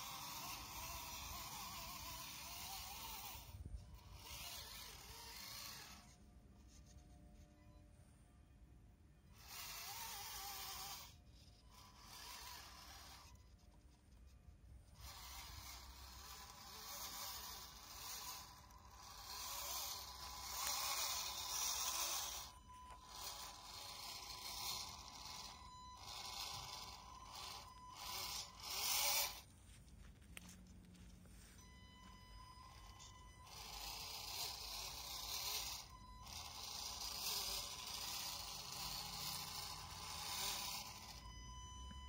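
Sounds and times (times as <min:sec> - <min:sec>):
small electric motor whirring: 0:00.0 - 0:07.8, 0:09.2 - 0:42.0.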